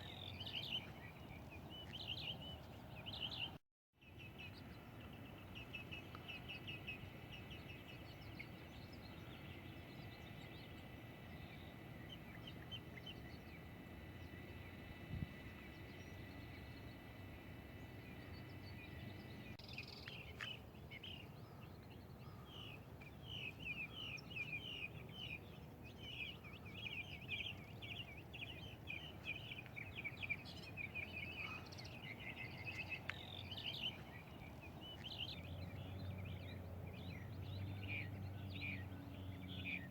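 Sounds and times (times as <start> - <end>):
birds chirping: 0.0 - 39.9
outdoor background noise: 0.0 - 39.9.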